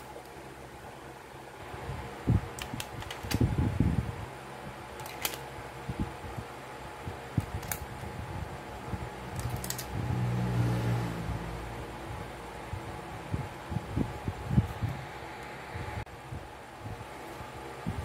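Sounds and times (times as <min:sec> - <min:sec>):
fan humming: 0:00.0 - 0:18.0.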